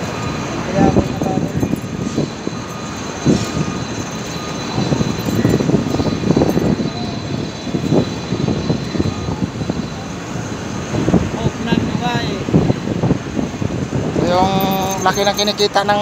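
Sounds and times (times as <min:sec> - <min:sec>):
mechanical drone: 0:00.0 - 0:15.7.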